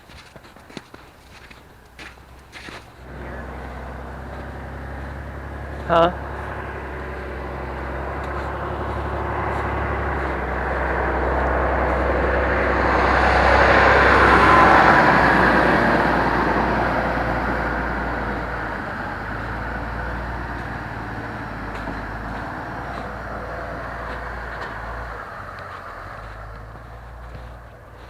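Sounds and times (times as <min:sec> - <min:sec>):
road vehicle passing by: 0:00.0 - 0:28.0.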